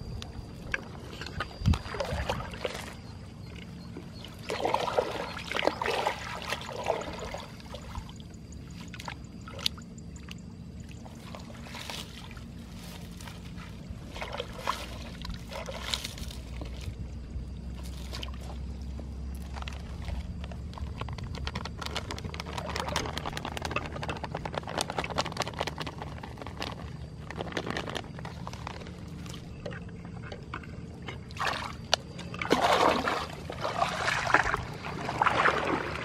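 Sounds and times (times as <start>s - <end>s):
muddy water splashing: 1.0s - 10.4s, 11.0s - 17.0s, 17.6s - 29.5s, 30.2s - 36.0s.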